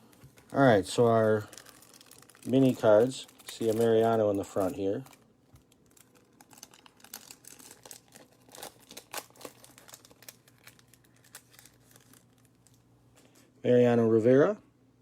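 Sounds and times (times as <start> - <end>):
trading cards rustling and shuffling: 0.0 - 13.5
soft crinkling: 0.0 - 13.6.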